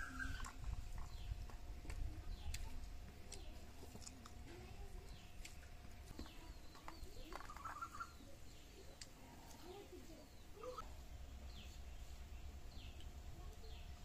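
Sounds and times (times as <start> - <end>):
birds calling: 0.0 - 14.0
soft chewing: 0.0 - 14.0.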